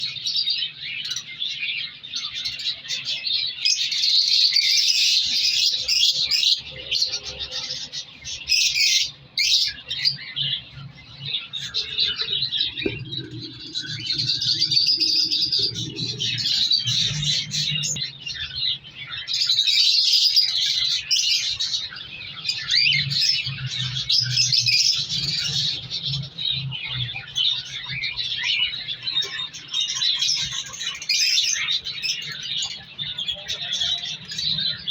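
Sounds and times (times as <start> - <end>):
cockatiels chirping and chattering: 0.0 - 34.9.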